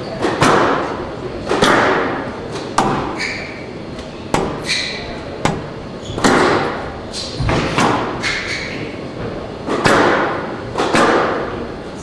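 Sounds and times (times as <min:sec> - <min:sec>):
squash ball striking walls: 0:00.2 - 0:03.6, 0:04.3 - 0:08.7, 0:09.6 - 0:11.6.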